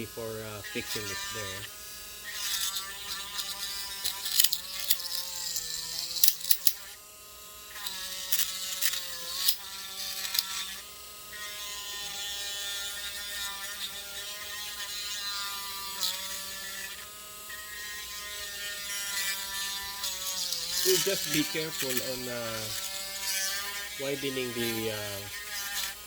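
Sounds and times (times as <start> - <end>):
electric sanding tool whine: 0.0 - 26.0.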